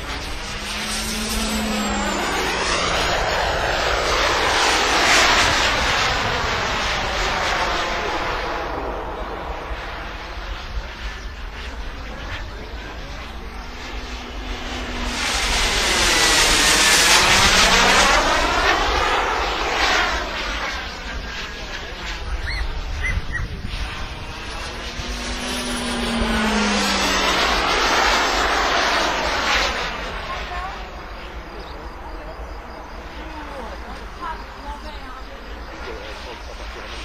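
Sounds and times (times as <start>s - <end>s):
model jet flying past: 0.0s - 37.0s.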